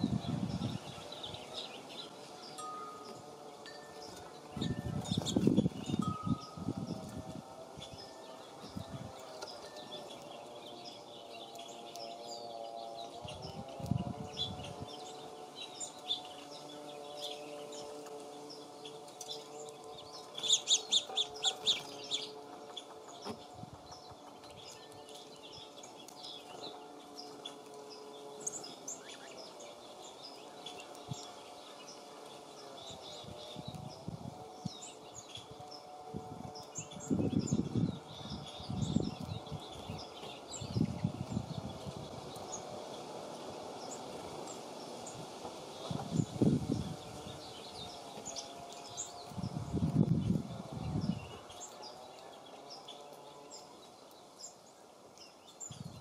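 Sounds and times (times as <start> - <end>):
small songbirds chirping: 0.0 - 56.0.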